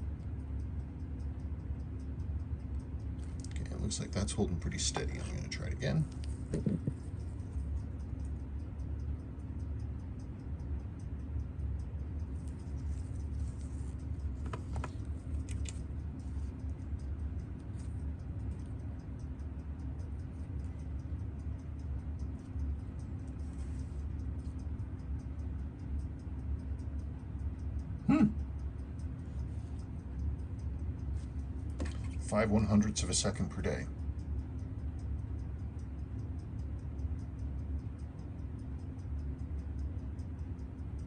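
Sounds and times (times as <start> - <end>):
fast even ticking: 0.0 - 41.0
low electrical hum: 0.0 - 41.0
faint clicks: 7.0 - 41.0.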